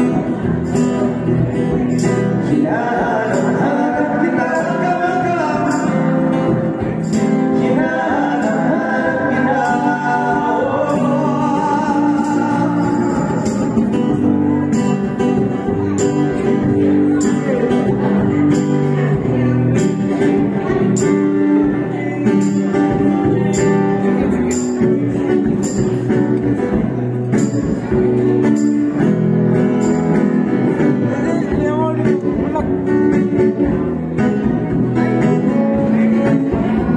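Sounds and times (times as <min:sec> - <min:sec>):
person singing: 0:00.0 - 0:26.7, 0:30.8 - 0:36.9
strummed acoustic guitar: 0:00.0 - 0:36.9.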